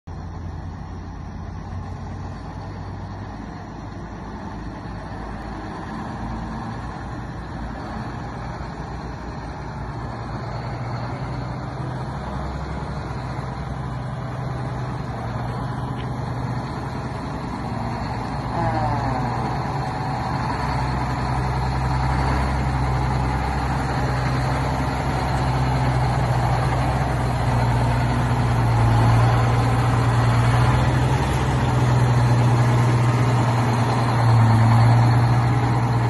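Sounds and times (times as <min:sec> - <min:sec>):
fire truck engine running: 0:00.0 - 0:36.0.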